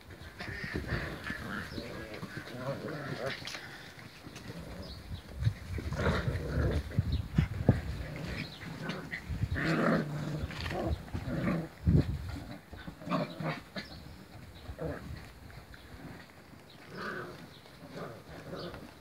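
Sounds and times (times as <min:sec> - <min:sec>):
puppies growling: 0:00.0 - 0:19.0.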